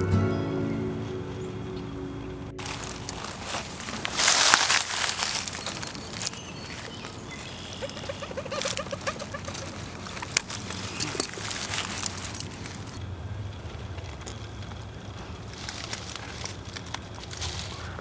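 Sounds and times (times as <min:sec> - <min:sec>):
twigs and leaves cracking underfoot: 0:02.6 - 0:13.0, 0:13.8 - 0:18.0.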